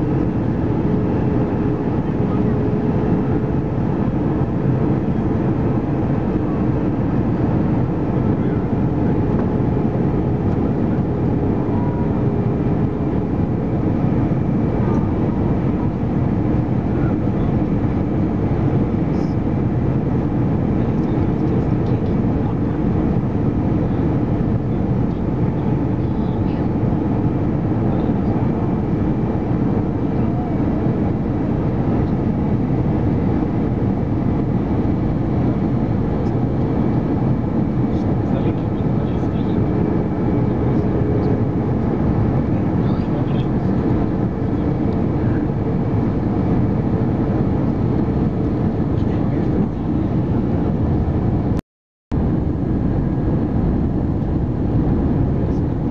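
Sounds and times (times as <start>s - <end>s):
faint hum: 0.0s - 51.6s, 52.2s - 55.9s.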